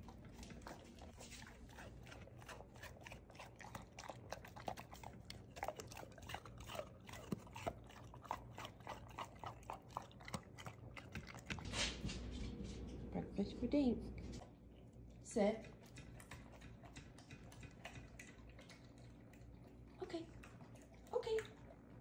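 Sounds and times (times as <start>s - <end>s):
dog chewing wet food: 0.0s - 13.2s, 14.1s - 22.0s.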